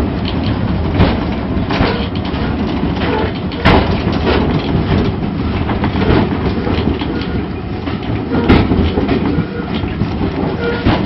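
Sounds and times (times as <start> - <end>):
train carriage rumble and rattle: 0.0 - 11.0
wheels clattering over rails: 0.0 - 11.0.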